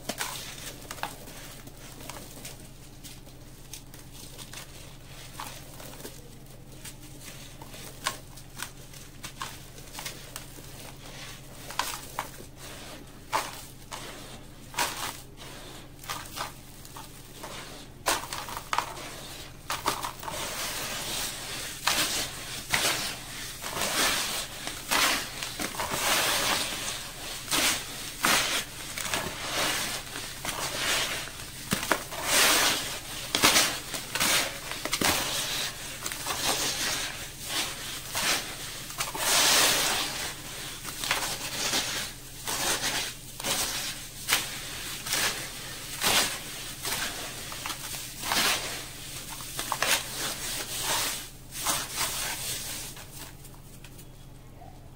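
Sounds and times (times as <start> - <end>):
hands crunching gritty cement mix: 0.0 - 54.0.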